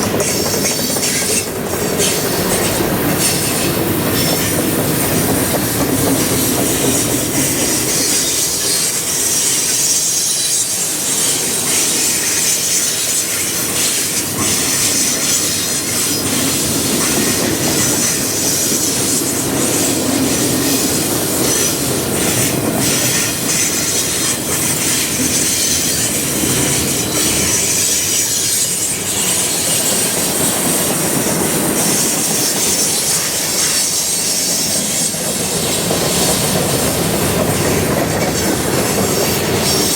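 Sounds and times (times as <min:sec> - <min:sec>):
high wheel squeal: 0:00.0 - 0:30.4, 0:31.8 - 0:39.9
freight train rolling past: 0:00.0 - 0:39.9.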